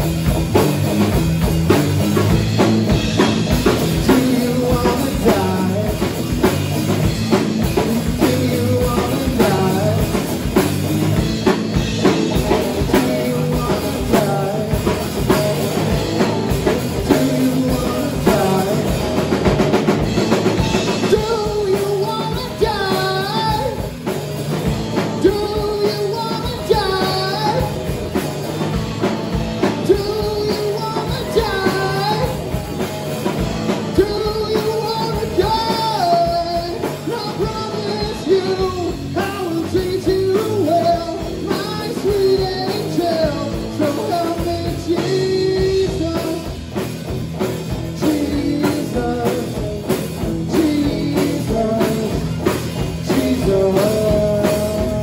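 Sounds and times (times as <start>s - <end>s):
live rock band playing: 0.0s - 55.0s
lead vocal: 1.1s - 55.0s.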